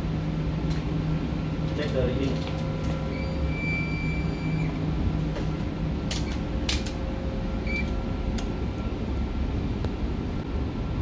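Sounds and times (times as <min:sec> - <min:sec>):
low ventilation fan hum: 0:00.0 - 0:11.0.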